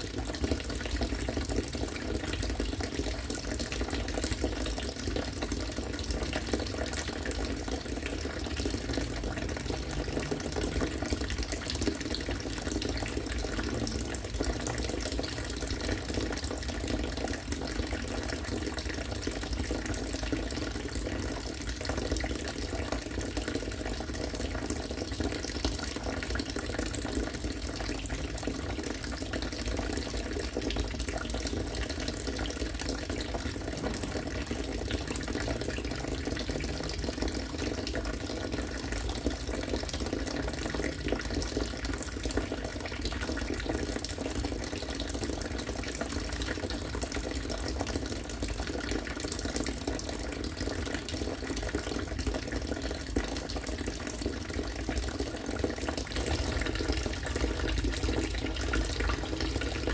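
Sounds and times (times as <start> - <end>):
water pouring in a stream: 0.0 - 59.9.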